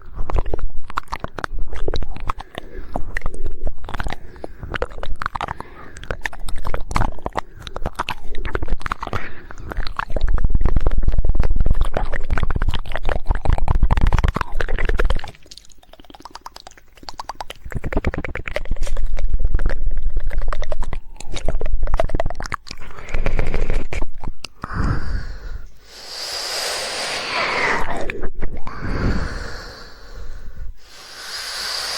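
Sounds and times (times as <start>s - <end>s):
tongue clicking: 0.0s - 31.9s
wet mouth sounds: 0.0s - 31.9s.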